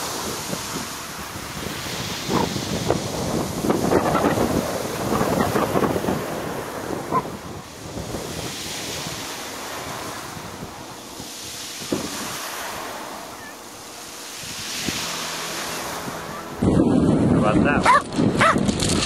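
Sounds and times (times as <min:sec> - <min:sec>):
wind buffeting microphone: 0:00.0 - 0:12.8, 0:13.5 - 0:19.0
surf washing onto stony beach: 0:00.0 - 0:19.0.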